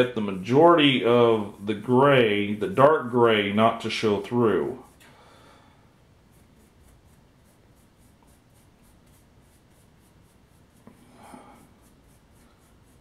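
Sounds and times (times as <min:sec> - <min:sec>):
paintbrush scratching: 0:00.0 - 0:05.0, 0:06.0 - 0:13.0.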